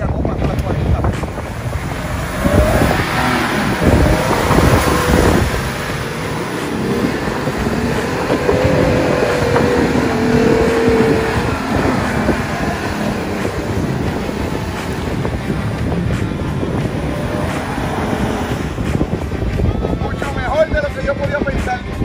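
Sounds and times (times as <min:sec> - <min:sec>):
engine revving: 0:00.0 - 0:20.8
tires churning sand: 0:00.0 - 0:22.0.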